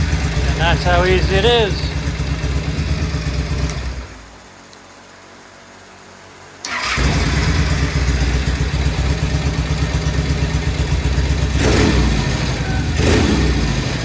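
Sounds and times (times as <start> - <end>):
motorcycle engine starting and running: 0.0 - 4.6, 6.6 - 14.0.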